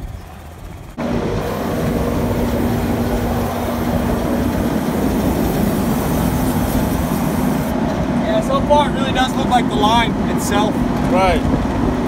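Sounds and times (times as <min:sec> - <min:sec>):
large engine running: 0:00.0 - 0:12.0.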